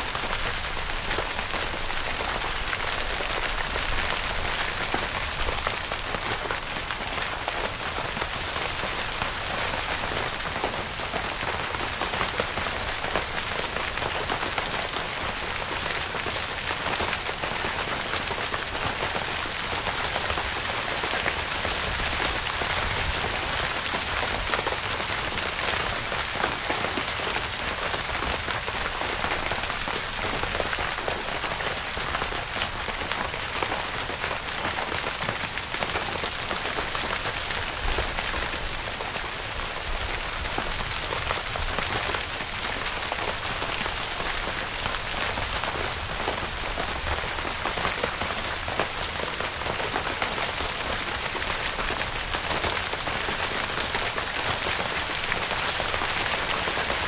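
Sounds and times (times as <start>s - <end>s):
rain on tent fabric: 0.0s - 57.0s.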